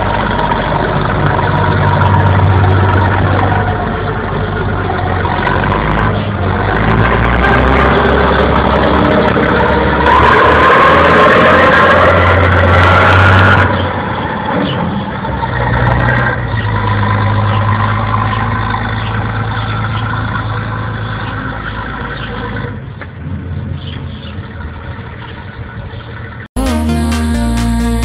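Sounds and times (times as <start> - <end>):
combine harvester engine running: 0.0 - 22.7.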